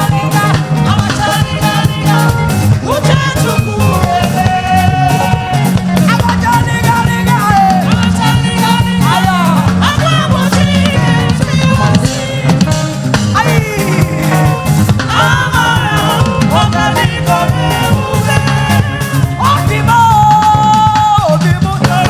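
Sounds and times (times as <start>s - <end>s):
bass line: 0.0s - 22.0s
drums: 0.0s - 22.0s
person singing: 0.0s - 22.0s.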